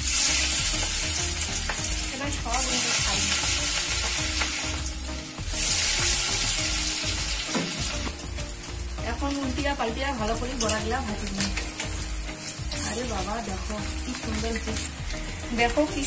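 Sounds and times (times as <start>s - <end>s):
oil sizzling while deep-frying: 0.0s - 16.0s.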